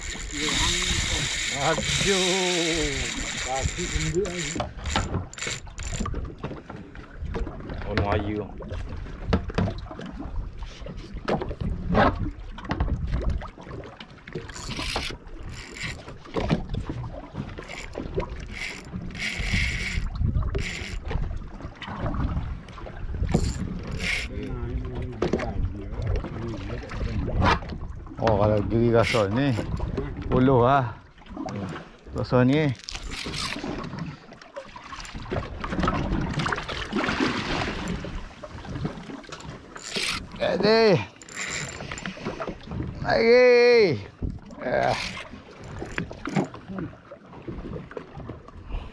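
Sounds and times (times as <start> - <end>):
boat engine: 0.0 - 8.3, 13.7 - 48.9
wind and water rumble: 0.0 - 48.9.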